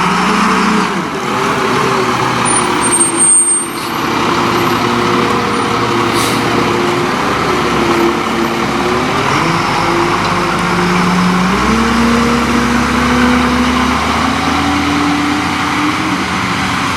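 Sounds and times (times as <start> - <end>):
diesel engine revving: 0.0 - 16.9.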